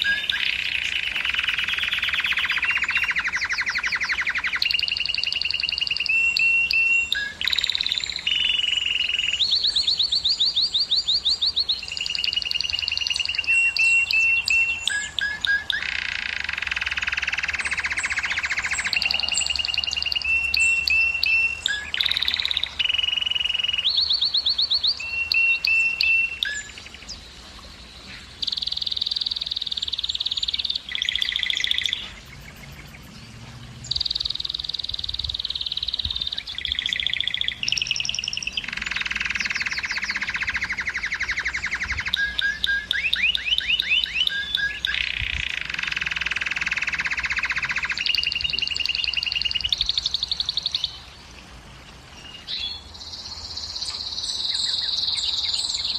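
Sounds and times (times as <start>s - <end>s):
canary singing trills: 0.0s - 51.1s, 52.2s - 55.9s.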